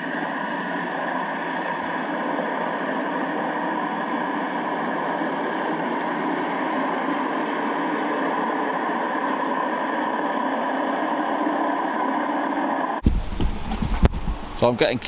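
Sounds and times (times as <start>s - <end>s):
underwater ferry engine rumble: 0.0s - 15.0s.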